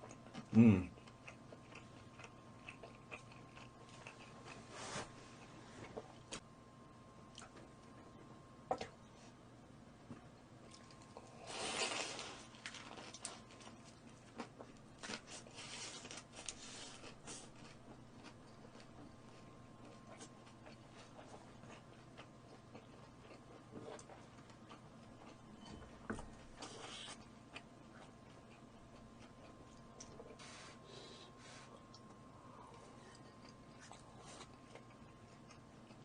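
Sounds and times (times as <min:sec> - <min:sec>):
chewing and crunching: 0:00.0 - 0:04.7, 0:10.1 - 0:30.4, 0:31.8 - 0:36.0.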